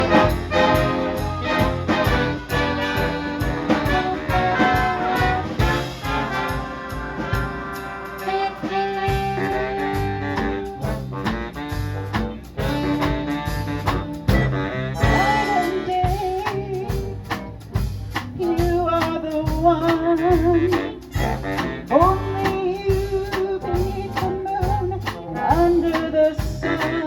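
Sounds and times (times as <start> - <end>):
big band jazz: 0.0 - 27.0.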